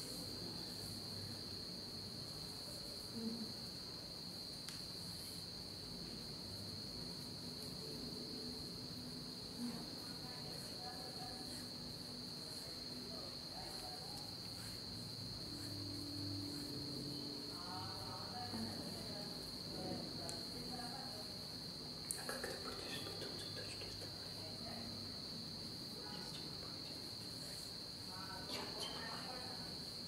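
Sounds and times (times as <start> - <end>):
crickets chirring: 0.0 - 30.0.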